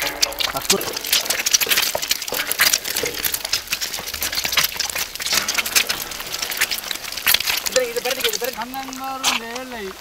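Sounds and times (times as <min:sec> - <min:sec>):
eggs sizzling in hot oil: 0:00.0 - 0:10.0
oil spattering pops: 0:00.0 - 0:10.0.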